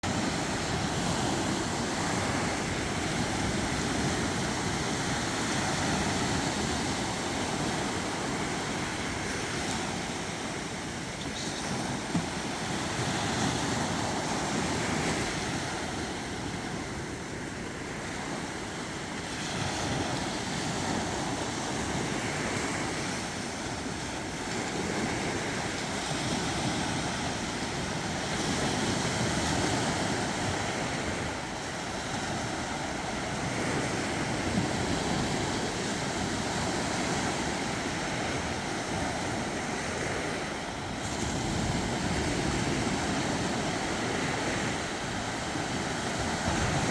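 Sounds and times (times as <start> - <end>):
sea waves washing onto shore: 0.0 - 46.9.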